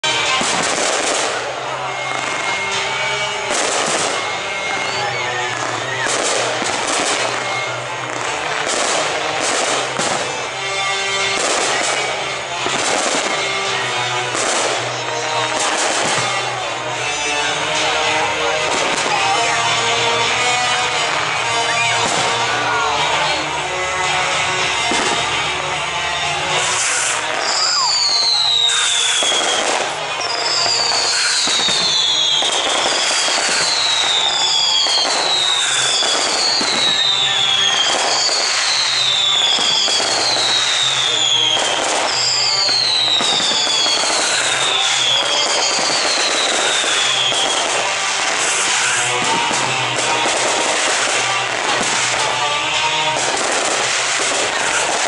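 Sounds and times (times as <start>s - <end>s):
fireworks bursting and crackling: 0.0s - 55.0s
music playing: 0.0s - 55.0s.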